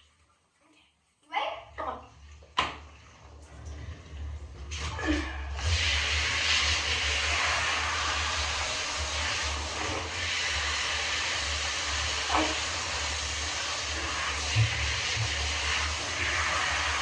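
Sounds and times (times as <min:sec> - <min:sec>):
running water hissing: 0:02.1 - 0:17.0
low hum: 0:03.0 - 0:16.9.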